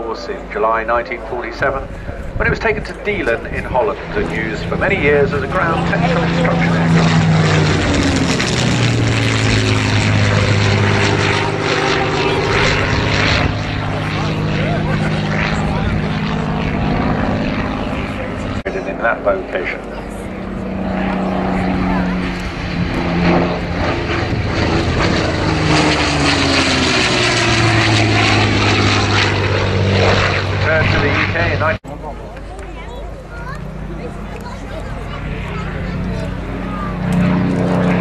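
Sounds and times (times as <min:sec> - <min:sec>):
propeller plane engine drone: 0:00.0 - 0:38.0.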